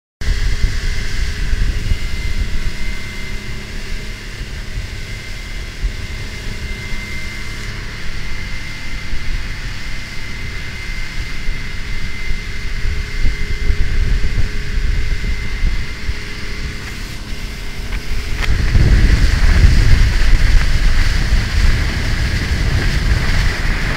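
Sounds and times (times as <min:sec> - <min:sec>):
outboard motor running: 0:00.2 - 0:23.9
wind rumbling on microphone: 0:00.2 - 0:23.9.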